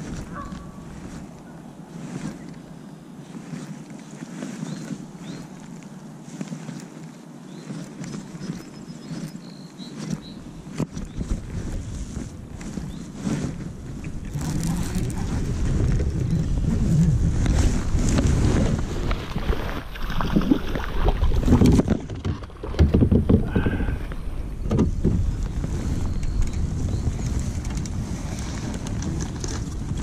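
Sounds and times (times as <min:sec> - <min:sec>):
wind: 0:00.0 - 0:30.0
microphone handling noise: 0:03.3 - 0:30.0.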